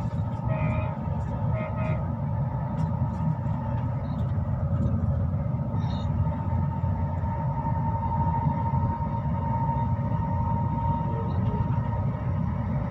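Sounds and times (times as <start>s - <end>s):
high whine: 0.0s - 12.9s
train low rumble: 0.0s - 12.9s.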